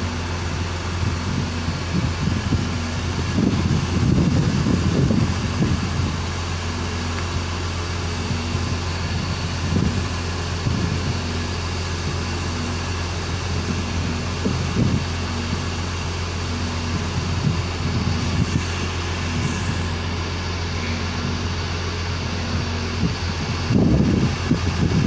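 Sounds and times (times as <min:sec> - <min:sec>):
boat engine low drone: 0:00.0 - 0:25.0
low rumbles: 0:00.0 - 0:25.0.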